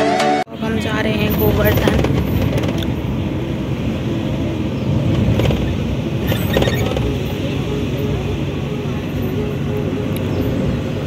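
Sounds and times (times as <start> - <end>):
road and wind rumble: 0.5 - 11.0
rattling: 1.1 - 10.9.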